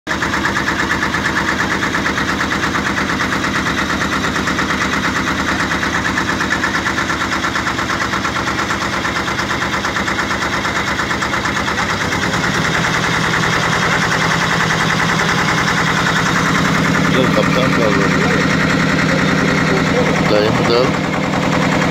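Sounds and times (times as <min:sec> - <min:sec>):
boat engine chugging: 0:00.1 - 0:21.9.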